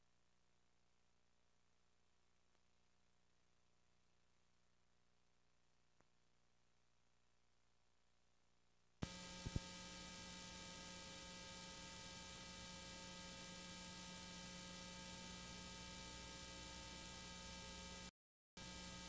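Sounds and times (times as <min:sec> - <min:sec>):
buzzing electrical hum with hiss: 0:00.0 - 0:19.0.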